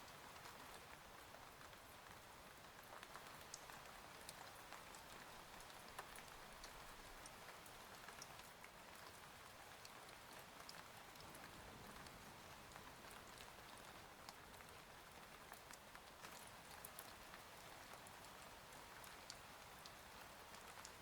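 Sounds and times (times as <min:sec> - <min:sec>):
faint rain on a window: 0:00.0 - 0:21.0.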